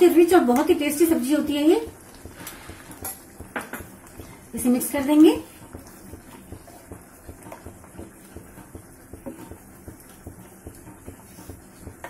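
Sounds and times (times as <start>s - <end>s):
metal spoon stirring thick gravy: 0.5s - 12.0s.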